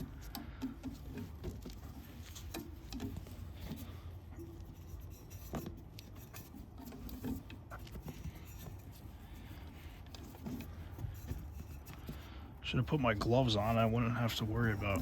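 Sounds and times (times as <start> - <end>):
light clicks taps and scrapes: 0.0 - 15.0.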